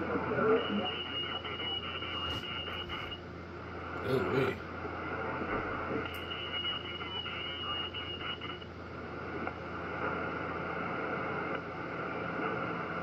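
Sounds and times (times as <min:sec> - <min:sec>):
radio band noise hiss: 0:00.0 - 0:13.0.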